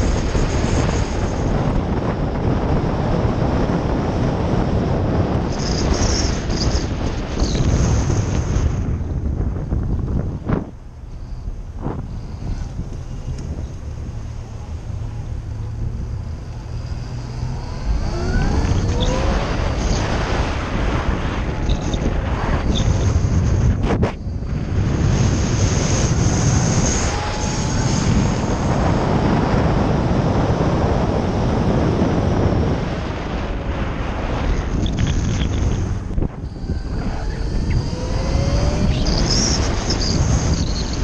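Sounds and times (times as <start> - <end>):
rising engine whine: 0.0 - 41.0
vehicle road noise: 0.0 - 41.0
wind rushing over microphone: 0.0 - 41.0.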